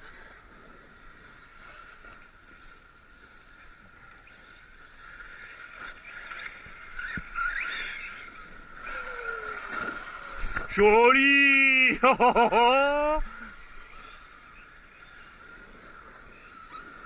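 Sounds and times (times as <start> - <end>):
rc car driving over dirt: 0.0 - 17.0
rc car motor whine: 0.0 - 17.0.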